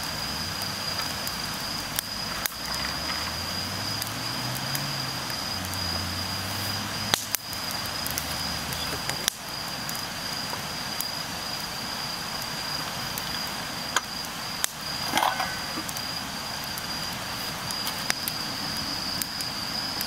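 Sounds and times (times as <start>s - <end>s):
campfire crackling and popping: 0.0s - 20.0s
crickets trilling: 0.0s - 20.0s.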